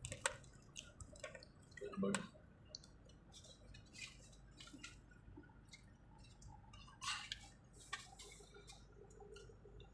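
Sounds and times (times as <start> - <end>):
small clicks and ticks: 0.0 - 9.9.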